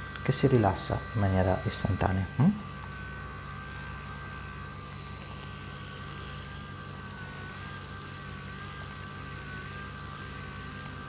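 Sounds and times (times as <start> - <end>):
vibration machine motor humming: 0.0 - 11.0.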